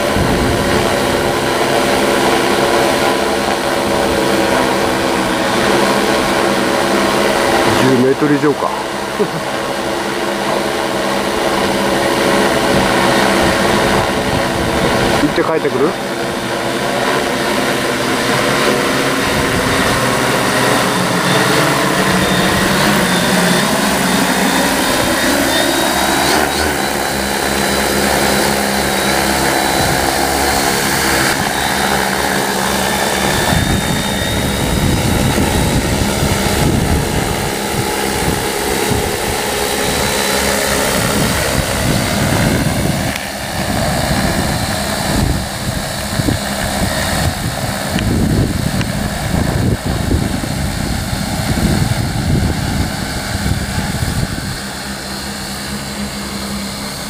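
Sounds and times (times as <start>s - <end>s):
drone rotors whirring: 0.0s - 57.0s.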